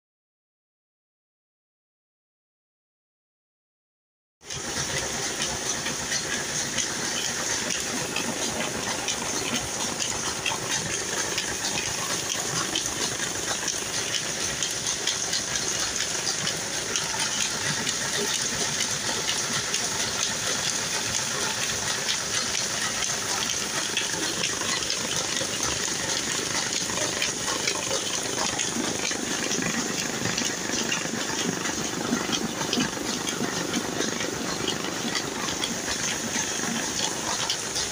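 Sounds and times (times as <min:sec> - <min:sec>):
oil press running with ticking: 0:04.4 - 0:37.9.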